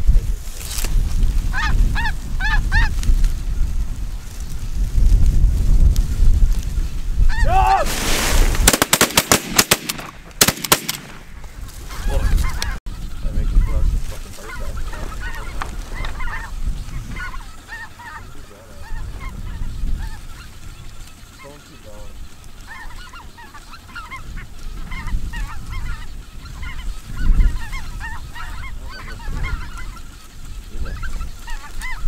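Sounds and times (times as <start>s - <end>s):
wind rumbling on microphone: 0.0s - 32.0s
geese honking: 1.4s - 4.6s, 6.9s - 32.0s.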